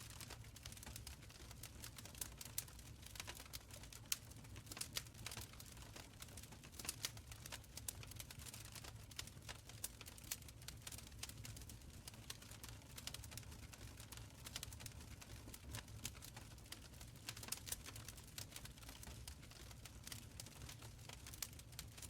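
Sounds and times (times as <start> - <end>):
wood fire crackling and popping: 0.0 - 22.0
low rumble of flames: 0.2 - 22.0.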